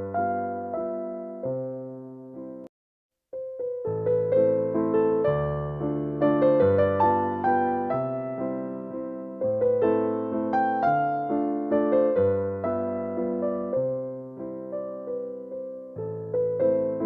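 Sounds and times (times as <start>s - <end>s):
gentle piano melody: 0.0s - 2.7s, 3.3s - 17.0s.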